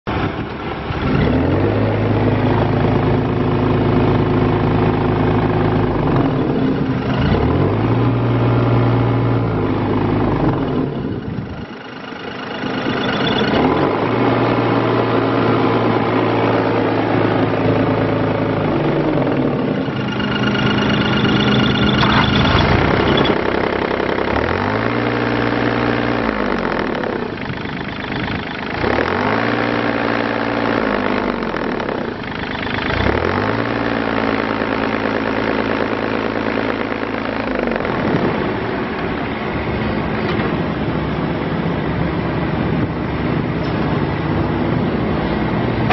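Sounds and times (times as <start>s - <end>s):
excavator diesel engine running: 0.1s - 45.9s.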